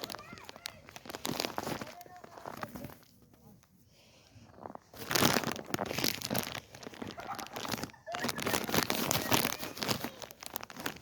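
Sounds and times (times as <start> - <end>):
footsteps crunching through snow: 0.0 - 11.0.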